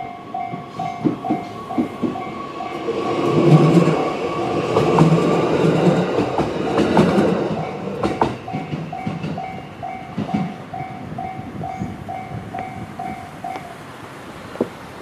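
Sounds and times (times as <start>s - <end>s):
train wheels clacking over joints: 0.0s - 13.6s
crossing warning bell beeping: 0.0s - 13.8s.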